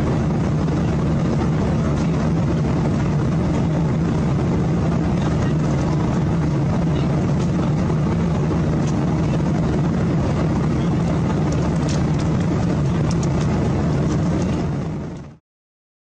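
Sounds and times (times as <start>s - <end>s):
airliner cabin roar: 0.0s - 15.4s.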